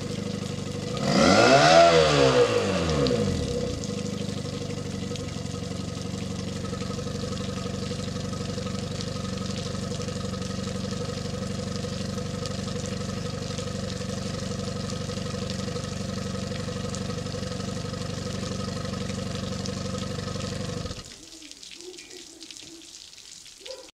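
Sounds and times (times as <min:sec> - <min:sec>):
outboard engine running: 0:00.0 - 0:21.1
faint water splashing from hose: 0:00.0 - 0:23.9.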